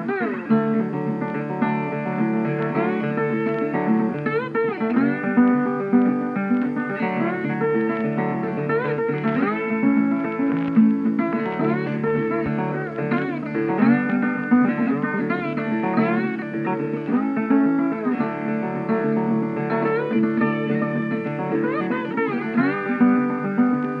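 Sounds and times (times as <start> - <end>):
instrumental guitar music: 0.0 - 24.0.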